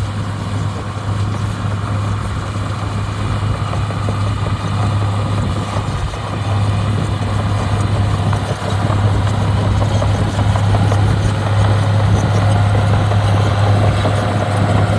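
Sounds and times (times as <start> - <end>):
heavy diesel engine droning: 0.0 - 14.9.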